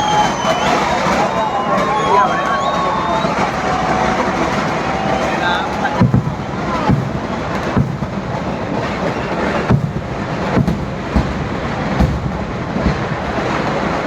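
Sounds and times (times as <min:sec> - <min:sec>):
firecrackers rolling rumble: 0:00.0 - 0:14.0
heavy firework bangs: 0:00.0 - 0:14.0.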